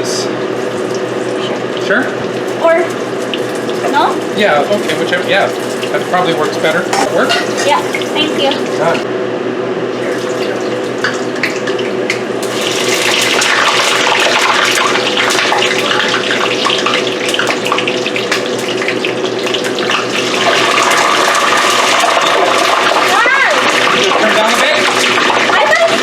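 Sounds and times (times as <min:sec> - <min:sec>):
water running from faucet: 0:00.0 - 0:09.1, 0:09.9 - 0:26.0.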